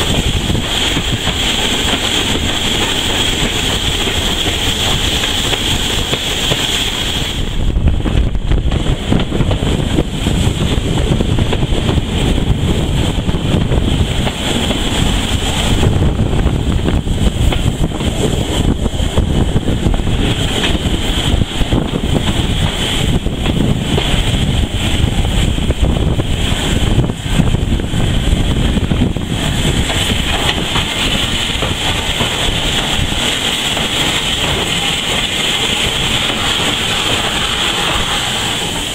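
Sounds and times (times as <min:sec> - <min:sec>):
train running along line: 0:00.0 - 0:38.9
wind buffeting microphone: 0:00.0 - 0:38.9.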